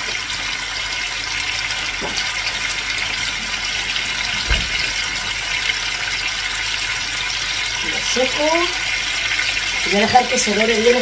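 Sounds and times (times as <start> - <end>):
chicken sizzling in a hot pan: 0.0 - 11.0.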